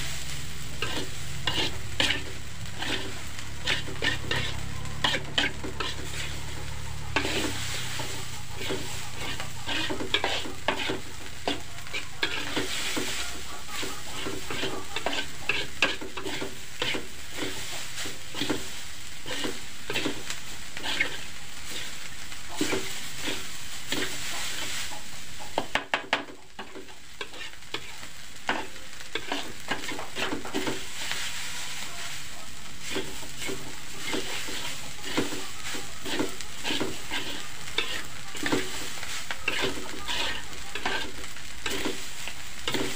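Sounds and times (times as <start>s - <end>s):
metal spatula scraping a wok: 0.0s - 42.9s
rice sizzling in a wok: 0.0s - 42.9s.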